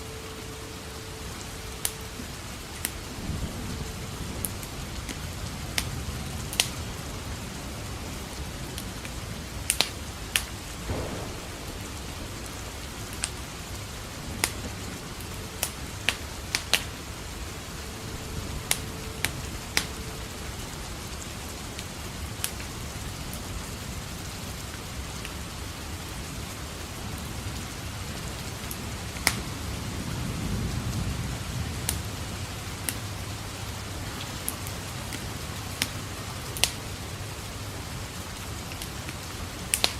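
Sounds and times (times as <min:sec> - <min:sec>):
thunder rumble: 0:00.0 - 0:37.8
steady rain: 0:00.0 - 0:39.9
wood fire crackling: 0:00.0 - 0:39.9.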